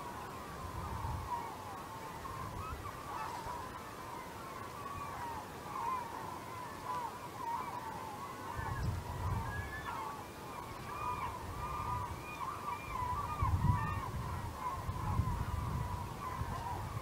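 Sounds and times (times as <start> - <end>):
flock of gulls calling: 0.0 - 17.0.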